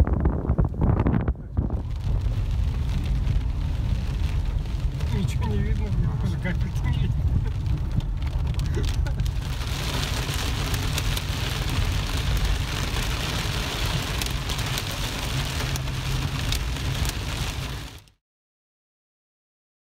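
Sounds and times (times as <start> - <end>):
car driving rumble: 0.0 - 18.1
heavy rain on car roof: 0.1 - 18.2.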